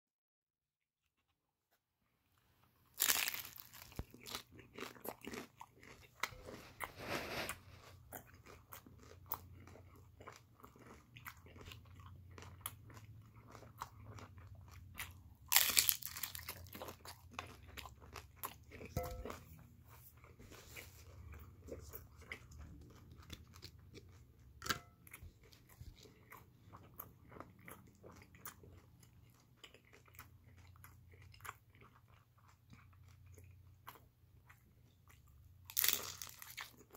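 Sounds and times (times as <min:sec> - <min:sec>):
crunchy chewing of pastry: 0:02.7 - 0:36.9.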